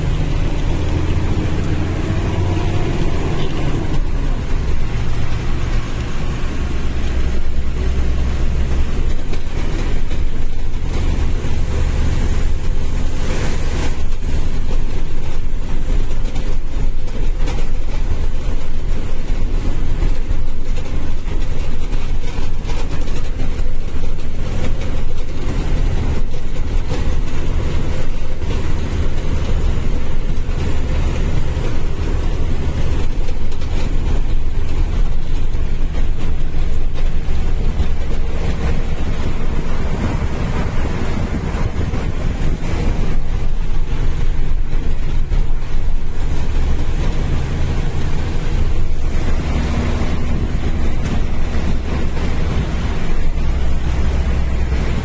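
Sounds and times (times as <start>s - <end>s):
truck engine drone in cab: 0.0s - 55.0s
tyres on wet road: 0.0s - 55.0s.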